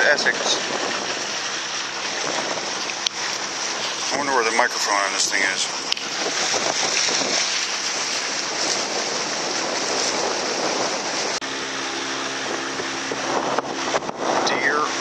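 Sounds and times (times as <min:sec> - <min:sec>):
boat engine humming: 0:00.0 - 0:15.0
rushing wind and water: 0:00.0 - 0:15.0.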